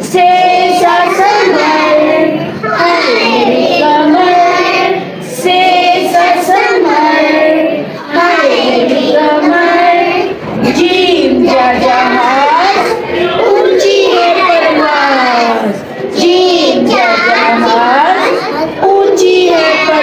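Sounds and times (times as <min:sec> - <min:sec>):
child singing: 0:00.0 - 0:20.0.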